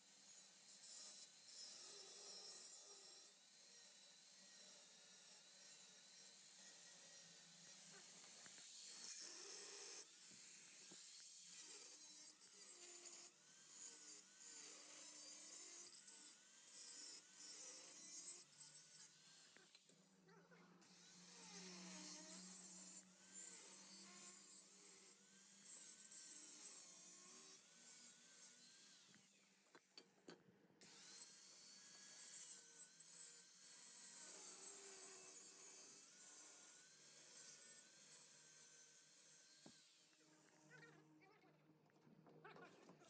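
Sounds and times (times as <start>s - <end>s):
power tool whining on metal: 0.2s - 19.9s, 20.8s - 29.5s, 30.8s - 40.6s.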